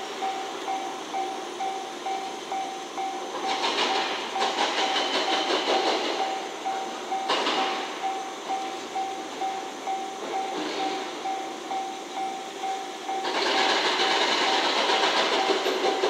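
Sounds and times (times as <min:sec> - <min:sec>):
electronic beeps: 0:00.0 - 0:16.0
train wheels clattering over rails: 0:00.0 - 0:16.0.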